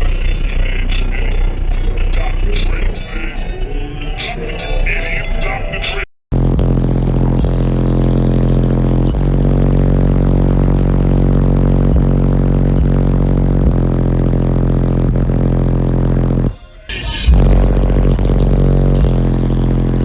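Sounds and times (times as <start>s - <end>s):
bass-heavy music through subwoofers: 0.0s - 20.0s.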